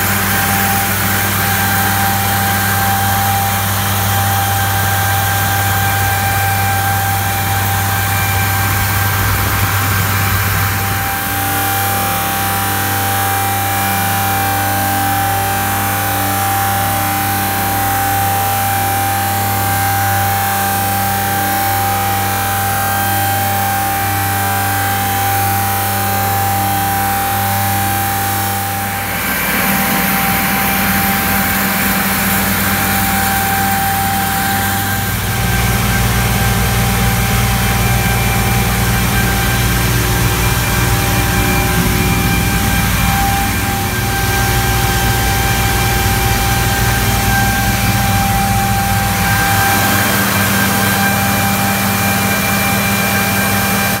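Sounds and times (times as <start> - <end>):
thin steady whine: 0.0 - 54.0
tractor engine droning: 0.0 - 54.0.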